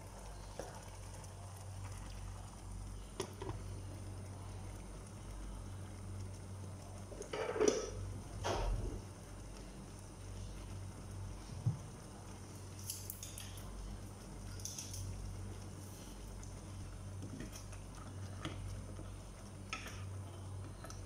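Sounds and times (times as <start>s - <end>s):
pot simmering: 0.0s - 21.0s.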